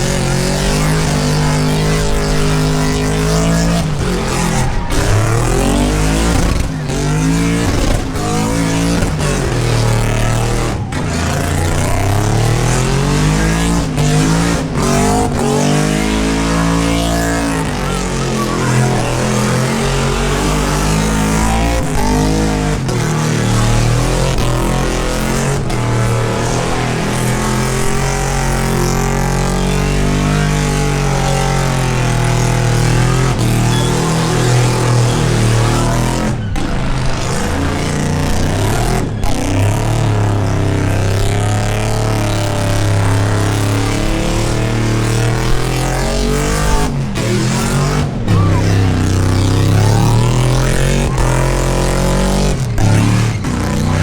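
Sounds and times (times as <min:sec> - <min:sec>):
engine revving in a burnout: 0:00.0 - 0:54.0.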